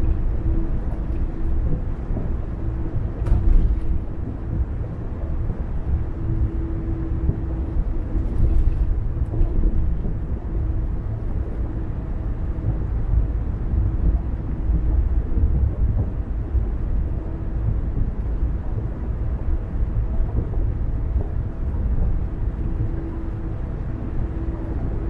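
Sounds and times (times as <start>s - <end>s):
car tyres and engine rumble: 0.0s - 25.0s
faint steady hum: 0.0s - 25.0s.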